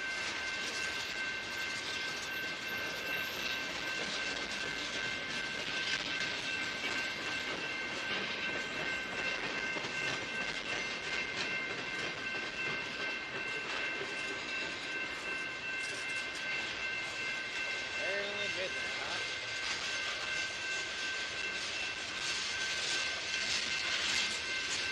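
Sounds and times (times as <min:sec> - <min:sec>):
freight train wheels on rails: 0:00.0 - 0:24.9.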